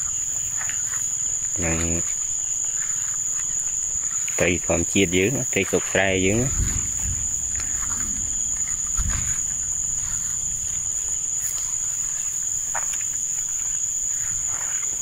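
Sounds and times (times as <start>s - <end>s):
crickets shrilling: 0.0s - 15.0s
footsteps through grass: 0.0s - 15.0s.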